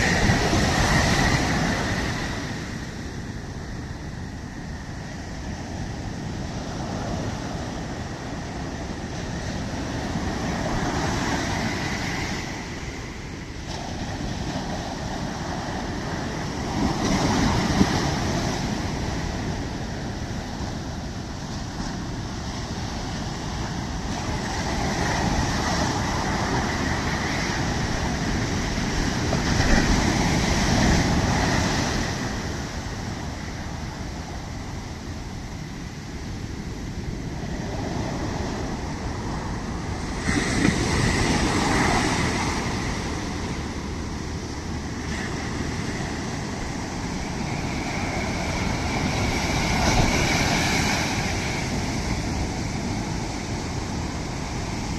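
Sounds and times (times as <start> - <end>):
sea waves breaking on shore: 0.0 - 54.9.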